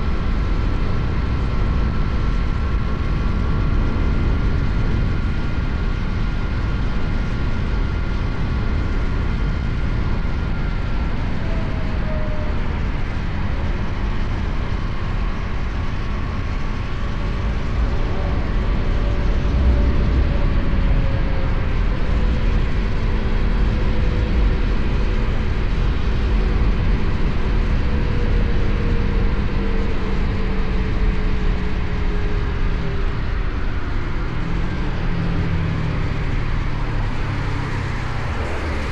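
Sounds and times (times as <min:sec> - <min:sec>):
road noise: 0:00.0 - 0:38.9
wind rush: 0:00.0 - 0:38.9.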